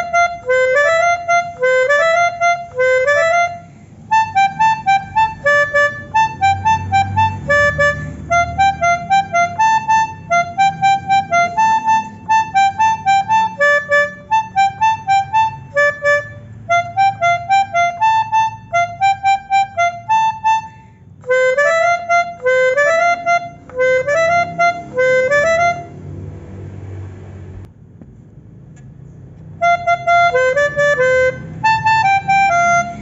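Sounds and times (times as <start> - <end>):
melodica playing short notes: 0.0 - 26.0, 29.5 - 33.0.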